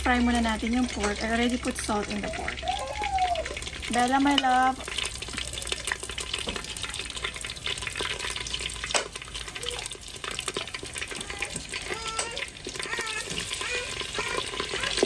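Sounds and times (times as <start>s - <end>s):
pork sizzling in hot oil: 0.0s - 15.0s.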